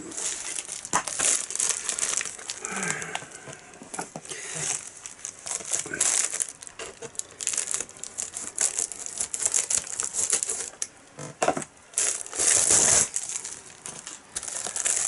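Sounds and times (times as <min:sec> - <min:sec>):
plastic bag crinkling: 0:00.0 - 0:10.9, 0:11.9 - 0:15.0.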